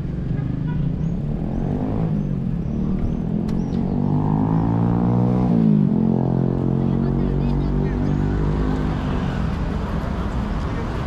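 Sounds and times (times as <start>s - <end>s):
street traffic: 0.0s - 11.0s
vehicle engine accelerating: 1.0s - 11.0s.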